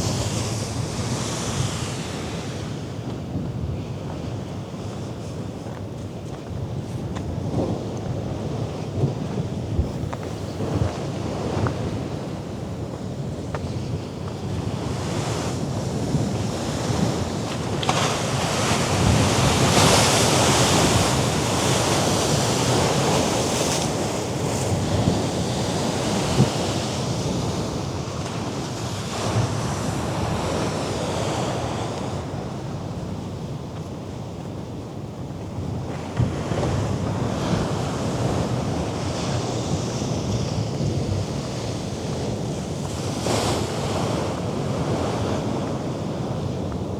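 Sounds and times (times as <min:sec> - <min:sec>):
sea waves surging against rocks: 0:00.0 - 0:46.9
wind buffeting microphone: 0:00.0 - 0:46.9.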